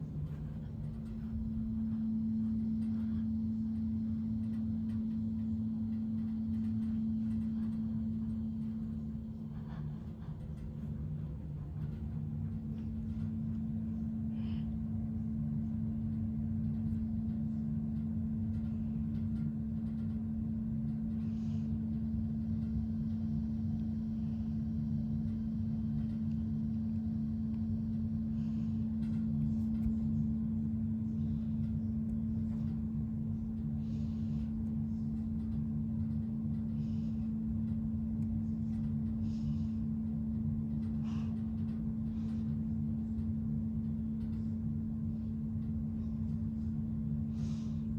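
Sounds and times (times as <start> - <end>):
ceiling fan motor hum: 0.0 - 47.9.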